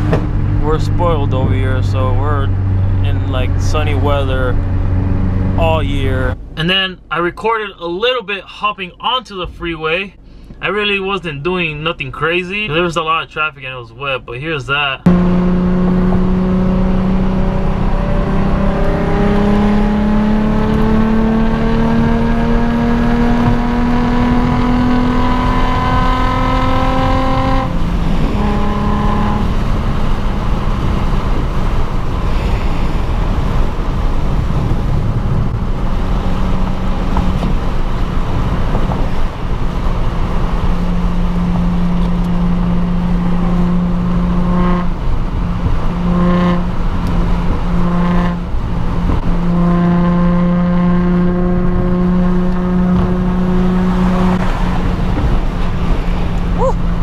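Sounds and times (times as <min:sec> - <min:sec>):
car engine accelerating: 0:00.0 - 0:07.2, 0:15.0 - 0:57.0
road noise on wet road: 0:00.0 - 0:08.7, 0:15.0 - 0:57.0.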